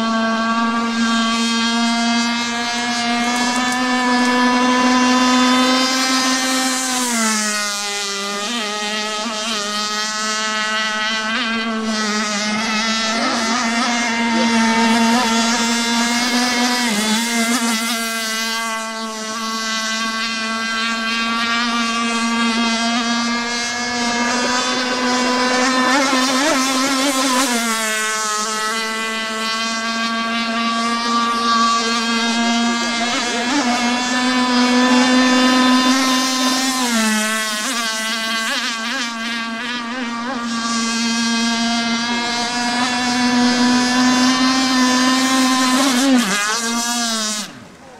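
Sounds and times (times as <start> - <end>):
model boat engine buzzing whine: 0.0 - 47.9.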